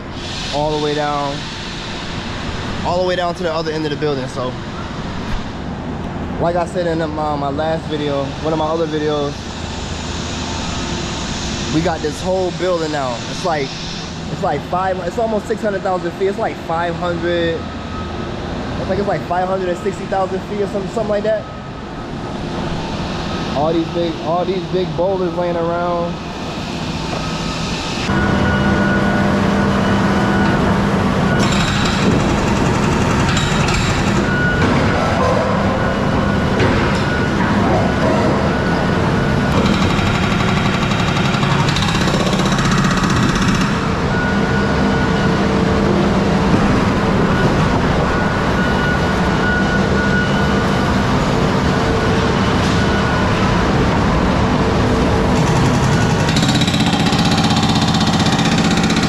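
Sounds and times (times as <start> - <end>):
construction equipment engine drone: 0.0 - 59.0.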